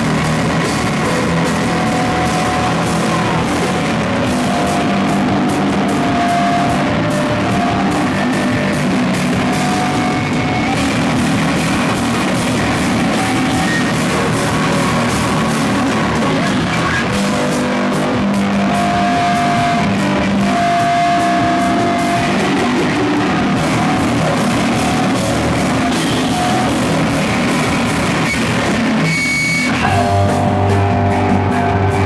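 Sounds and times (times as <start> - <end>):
distorted electric guitar: 0.0 - 32.0
drums: 0.0 - 32.0.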